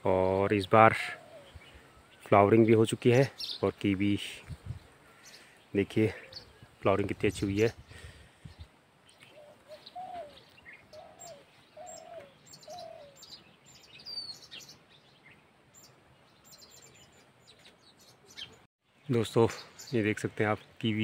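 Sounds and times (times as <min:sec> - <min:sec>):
wild birds chirping: 0:00.0 - 0:21.0.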